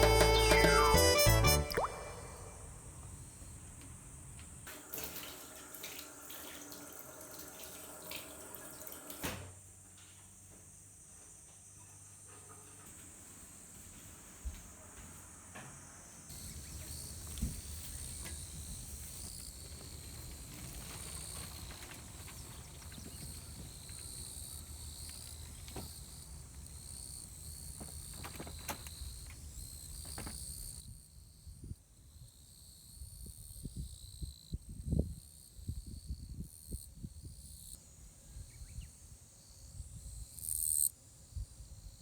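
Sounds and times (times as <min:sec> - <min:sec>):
insects chirping: 0:01.8 - 0:42.0.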